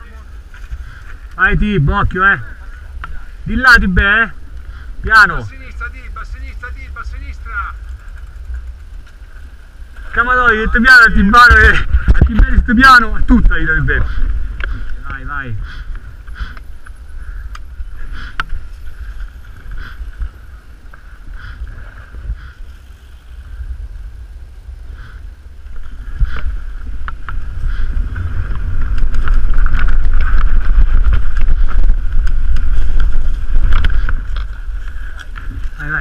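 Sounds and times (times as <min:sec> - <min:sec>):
tyres on gravel: 0:00.0 - 0:36.0
wind rumble on microphone: 0:00.0 - 0:36.0
bike clicks and rattles: 0:00.4 - 0:01.5, 0:04.4 - 0:12.6, 0:14.0 - 0:23.2, 0:25.0 - 0:36.0.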